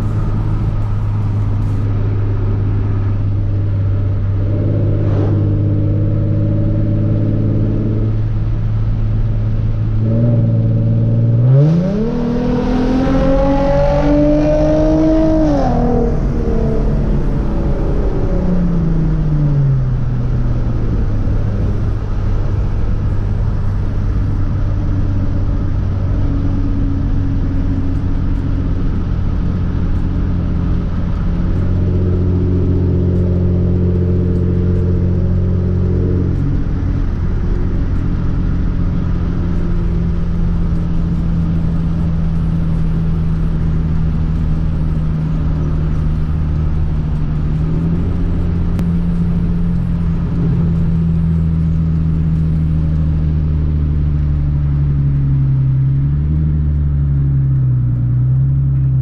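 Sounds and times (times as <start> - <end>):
car engine revving and droning: 0.0 - 59.0.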